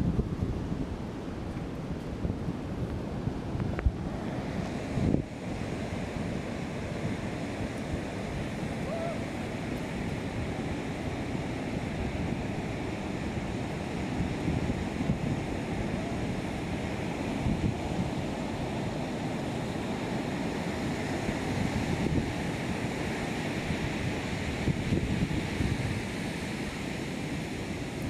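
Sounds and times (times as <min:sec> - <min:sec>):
wind buffeting microphone: 0:00.0 - 0:28.0
surf breaking on beach: 0:02.3 - 0:28.0.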